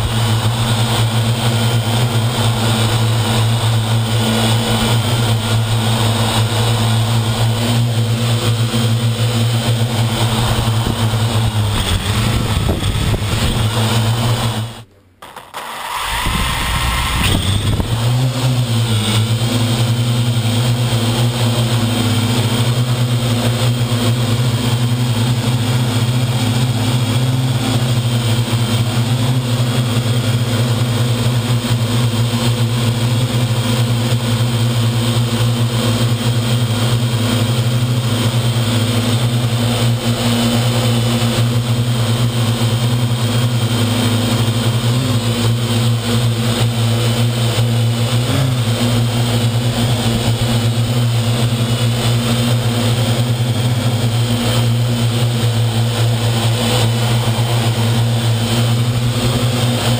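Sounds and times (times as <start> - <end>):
quadcopter motors humming: 0.0 - 59.9.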